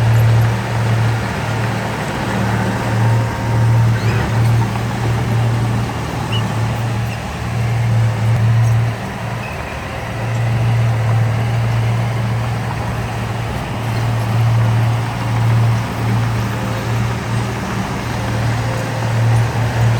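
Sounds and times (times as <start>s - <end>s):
heavy diesel engine under load: 0.0s - 19.9s.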